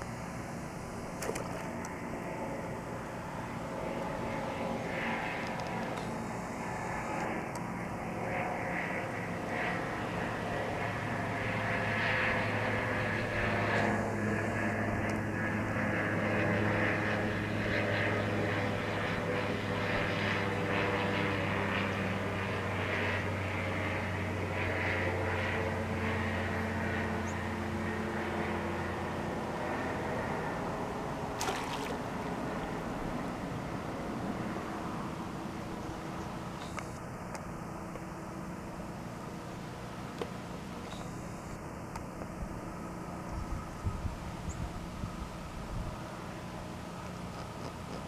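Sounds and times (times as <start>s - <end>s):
low engine drone: 0.0s - 48.0s.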